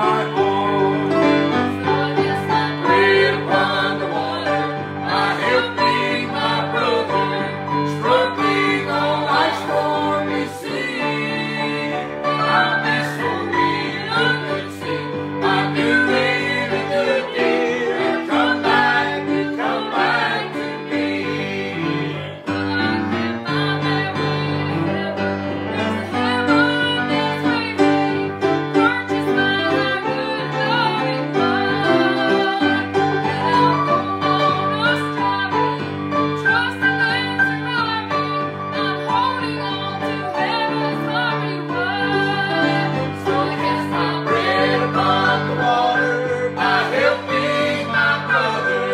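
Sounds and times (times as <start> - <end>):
grand piano: 0.0 - 48.9
group singing gospel song: 0.0 - 48.9.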